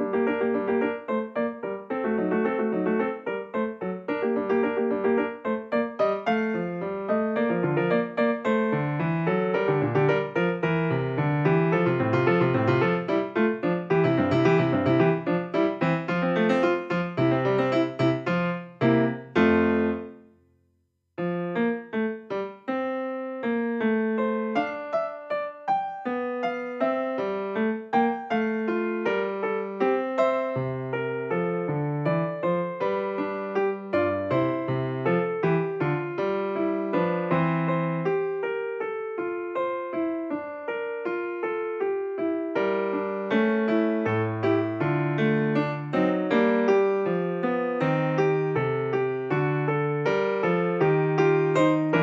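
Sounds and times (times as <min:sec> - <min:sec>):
piano music: 0:00.0 - 0:20.4, 0:21.2 - 0:52.0.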